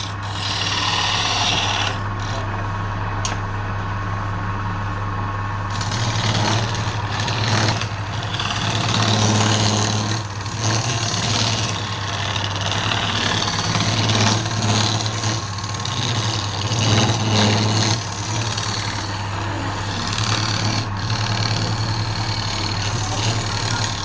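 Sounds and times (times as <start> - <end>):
turning tool cutting wood: 0.0 - 3.4, 5.6 - 24.0
wood lathe motor hum: 0.0 - 24.0.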